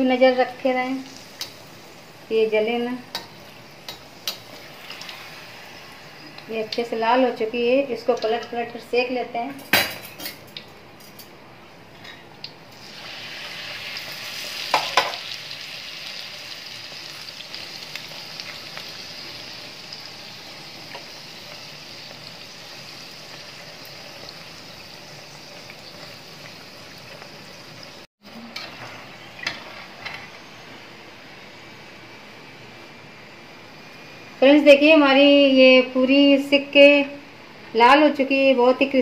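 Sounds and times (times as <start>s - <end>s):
oil sizzling and bubbling: 0.0s - 8.9s, 9.8s - 34.4s.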